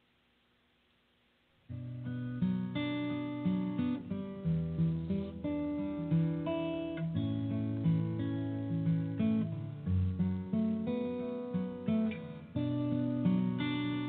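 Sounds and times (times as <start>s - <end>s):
plucked acoustic guitar: 1.7s - 14.0s.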